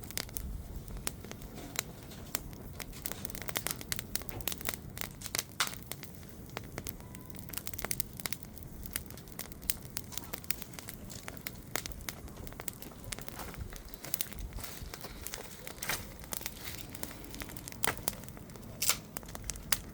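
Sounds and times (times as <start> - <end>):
bonfire crackling and popping: 0.0 - 19.9.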